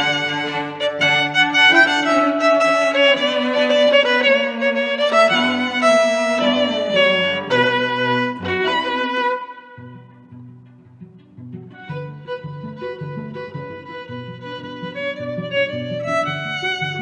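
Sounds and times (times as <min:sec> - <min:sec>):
lower string parts: 0:00.0 - 0:17.0
violin music: 0:00.0 - 0:17.0.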